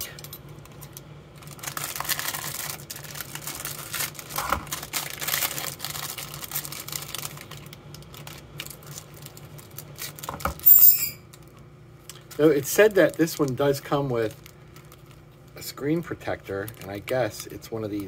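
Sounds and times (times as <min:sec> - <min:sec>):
plastic bag crinkling: 0:00.8 - 0:10.6, 0:11.3 - 0:18.0.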